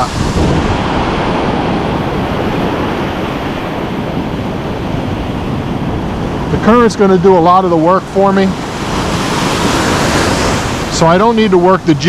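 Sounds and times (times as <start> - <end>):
ocean surf washing on beach: 0.0 - 12.0
wind noise on microphone: 0.0 - 12.0.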